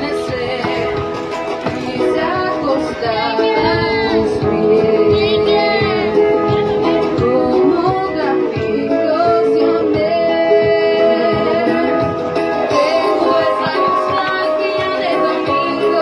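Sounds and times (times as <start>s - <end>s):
instrumental backing music: 0.0s - 16.0s
woman singing into microphone: 0.0s - 16.0s.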